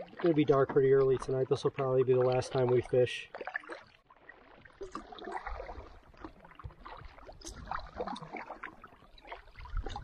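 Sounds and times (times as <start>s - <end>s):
paddle splashing water: 0.0s - 10.0s.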